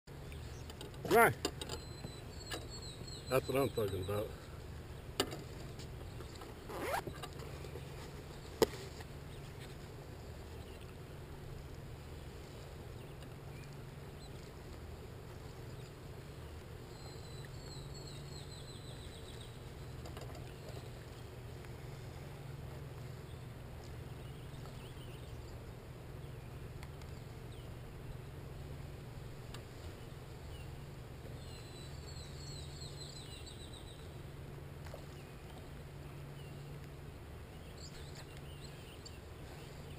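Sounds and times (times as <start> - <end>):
low outdoor rumble: 0.1 - 39.9.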